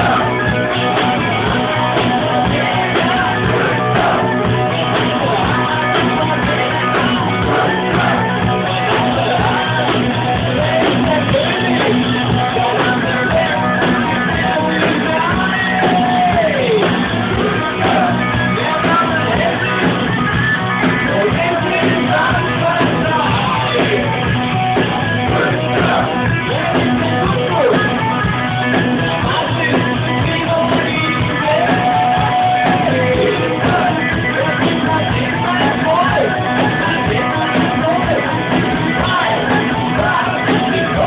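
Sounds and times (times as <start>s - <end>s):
person singing or shouting: 0.0s - 24.3s, 25.2s - 41.0s
guitar-led rock music: 0.0s - 41.0s.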